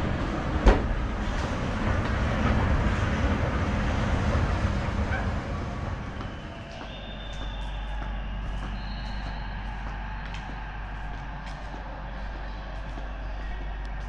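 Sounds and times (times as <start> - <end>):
city noise with low rumble: 0.0 - 14.0.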